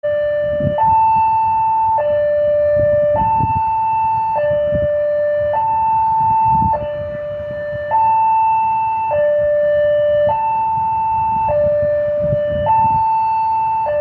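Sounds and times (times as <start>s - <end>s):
two-tone electronic alarm: 0.0s - 14.0s.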